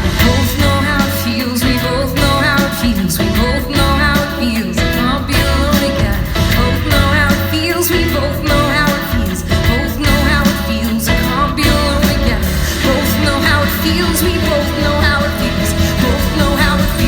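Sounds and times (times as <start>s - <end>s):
live pop-rock band playing: 0.0s - 17.0s.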